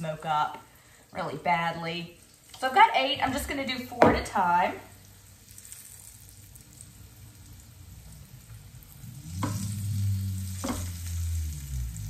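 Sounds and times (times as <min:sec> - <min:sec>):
food sizzling in fat: 0:00.0 - 0:12.0.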